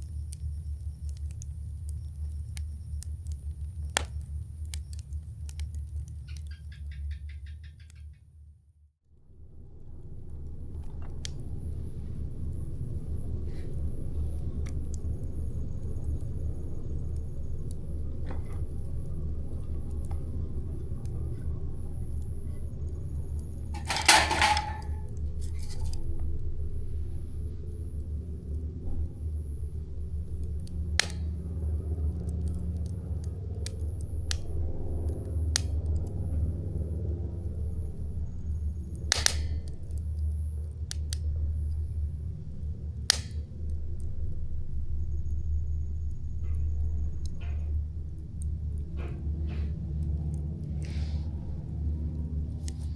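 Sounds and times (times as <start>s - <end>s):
campfire crackling: 0.0s - 7.8s, 9.9s - 52.9s
campfire low rumble: 0.0s - 8.0s, 9.2s - 52.9s.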